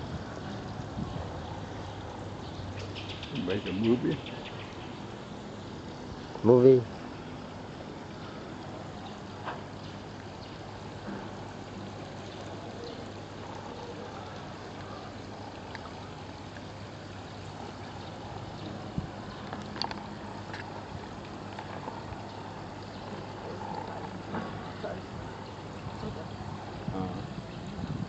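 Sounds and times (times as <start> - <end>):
water trickling into pond: 0.0 - 28.0.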